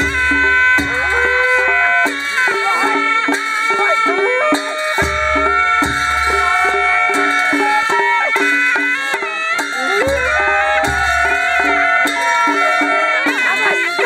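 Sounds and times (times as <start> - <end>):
clashing cymbals: 0.0 - 14.0
quick steady drum beat: 0.0 - 14.0
reedy shawm melody: 0.0 - 14.0.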